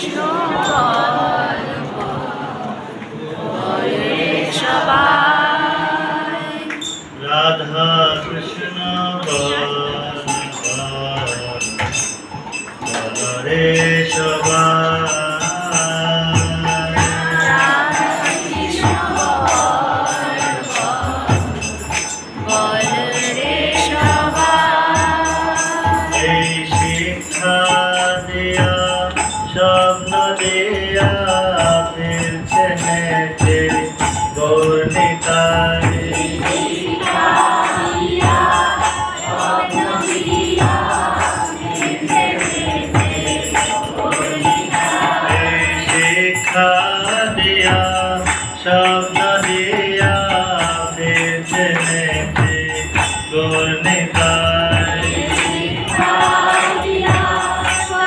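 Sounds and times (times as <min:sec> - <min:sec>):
melodic sung chant: 0:00.0 - 0:11.8, 0:12.9 - 0:58.0
hand cymbals jingling: 0:06.5 - 0:07.2, 0:09.3 - 0:58.0.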